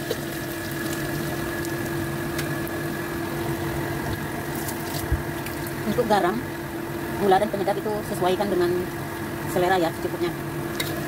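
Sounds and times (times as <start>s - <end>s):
food sizzling in a wok: 0.0s - 11.0s
mechanical hum: 0.0s - 11.0s.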